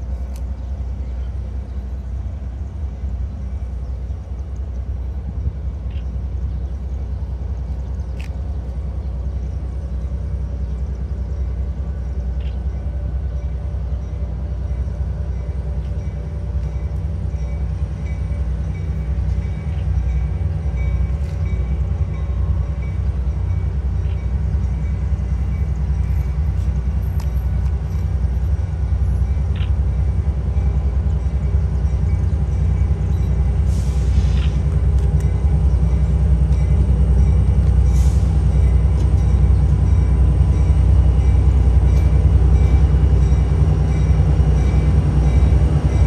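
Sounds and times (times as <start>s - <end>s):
freight train rumble: 0.0s - 46.0s.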